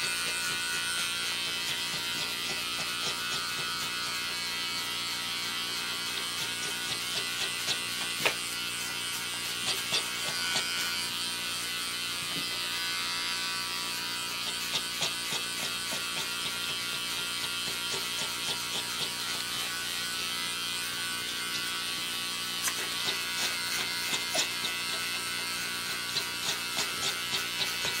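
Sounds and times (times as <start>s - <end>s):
electric hair clipper buzzing: 0.0s - 28.0s.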